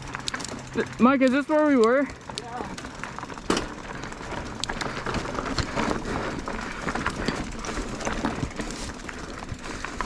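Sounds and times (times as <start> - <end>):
bike rattling clicks and knocks: 0.0 - 10.0
tyres crunching on gravel: 0.0 - 10.0.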